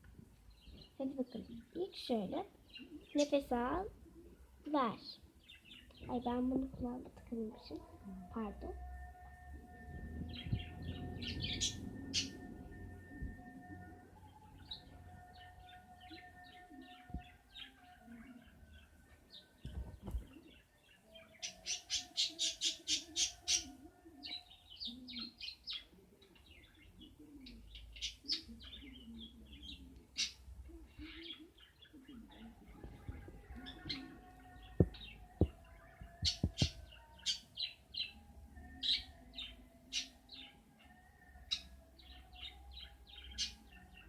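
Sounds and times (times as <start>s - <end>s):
small bird chirping: 0.5s - 44.0s.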